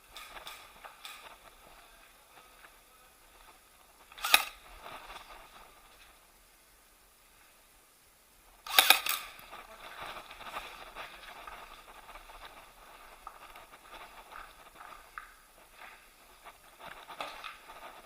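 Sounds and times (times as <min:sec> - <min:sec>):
footsteps crunching and rustling: 0:00.0 - 0:06.2, 0:09.2 - 0:18.0.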